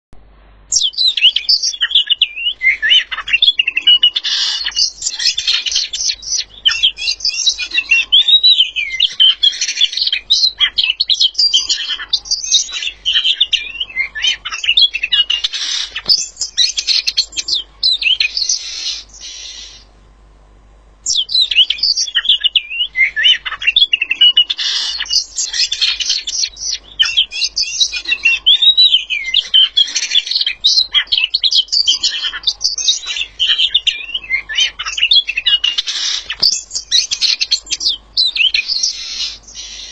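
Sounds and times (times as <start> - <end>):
songbird singing: 0.2 - 20.0, 20.8 - 39.9.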